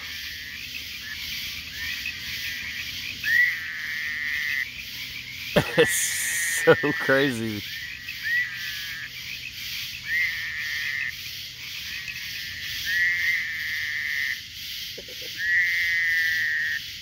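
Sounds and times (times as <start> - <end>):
frogs calling: 0.0 - 17.0
high-pitched frog chorus: 0.0 - 17.0.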